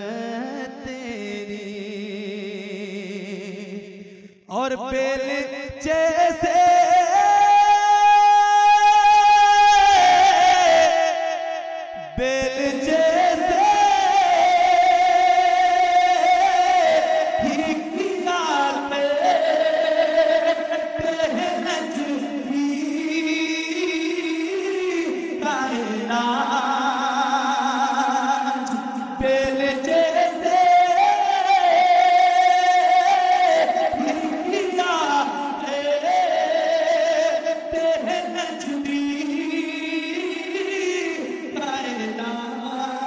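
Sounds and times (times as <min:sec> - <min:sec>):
man singing unaccompanied: 0:00.0 - 0:43.0.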